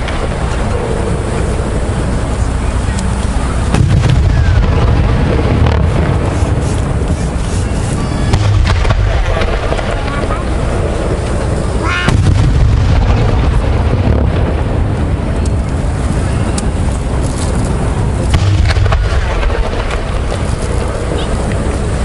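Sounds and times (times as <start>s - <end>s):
fireworks booming: 0.0s - 22.0s
fireworks sharp cracks: 0.0s - 22.0s.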